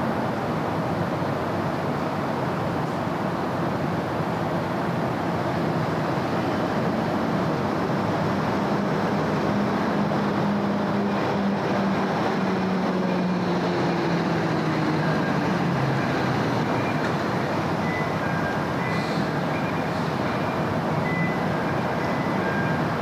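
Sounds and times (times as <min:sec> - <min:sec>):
cars passing with tyre noise: 0:00.0 - 0:23.0
vehicle engine hum: 0:00.0 - 0:23.0.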